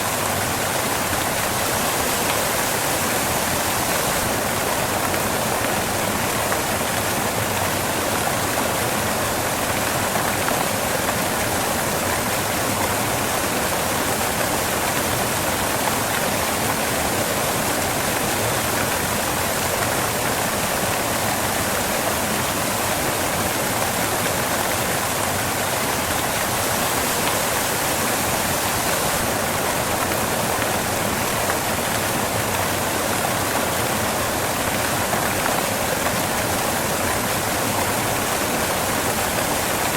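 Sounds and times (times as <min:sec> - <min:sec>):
waterfall crashing onto rocks: 0:00.0 - 0:39.9.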